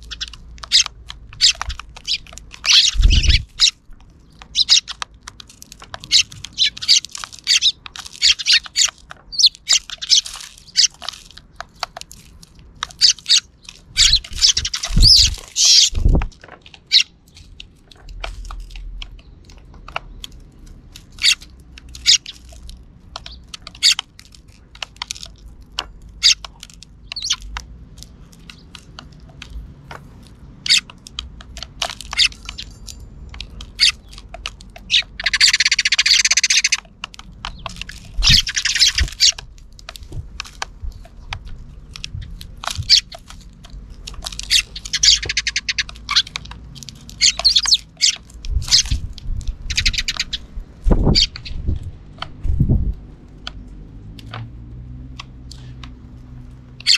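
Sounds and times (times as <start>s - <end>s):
sparrows chirping: 0.0s - 53.8s, 55.1s - 56.9s.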